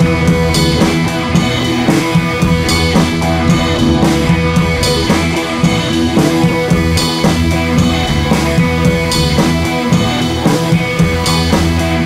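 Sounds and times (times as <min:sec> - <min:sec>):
rock music with drums and guitar: 0:00.0 - 0:12.0.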